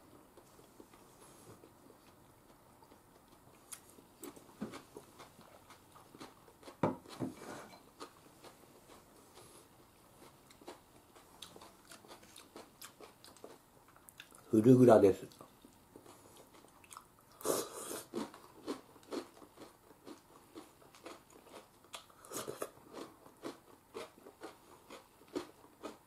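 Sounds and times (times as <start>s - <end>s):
faint chewing: 0.0s - 14.5s, 15.2s - 26.0s.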